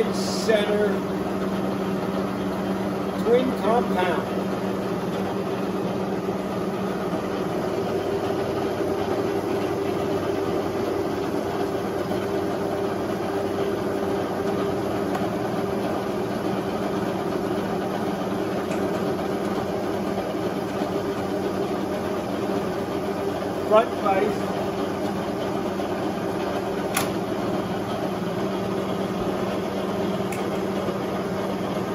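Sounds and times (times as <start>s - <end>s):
lathe running with steady hum: 0.0s - 31.9s.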